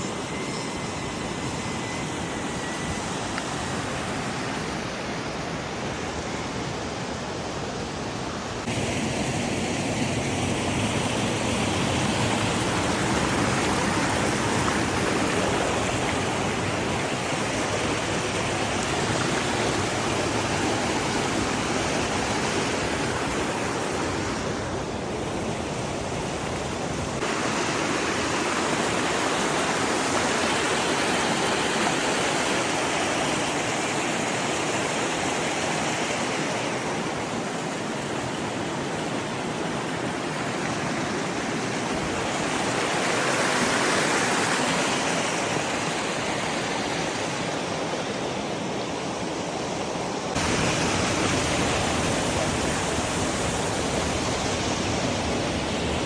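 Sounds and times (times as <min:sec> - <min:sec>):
waterfall rushing: 0:06.6 - 0:56.0.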